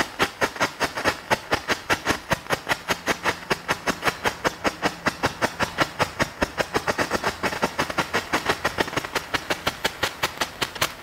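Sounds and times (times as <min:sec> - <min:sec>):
strobe firework popping: 0:00.0 - 0:11.0.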